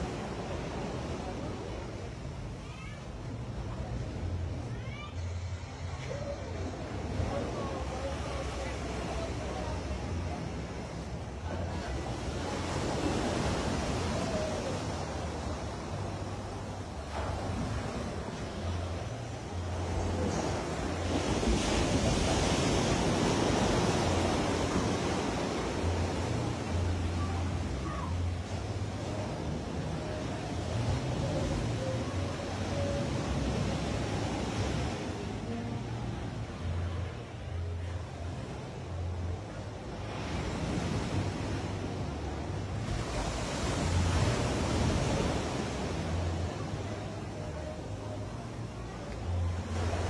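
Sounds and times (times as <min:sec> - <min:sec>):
sea surf washing onto shore: 0:00.0 - 0:05.0, 0:05.8 - 0:50.0.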